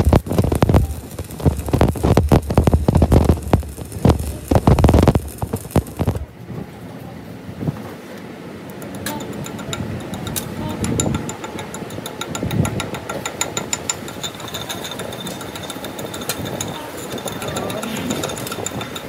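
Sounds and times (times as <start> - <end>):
arc welding crackling: 0.0 - 6.5, 8.6 - 19.0.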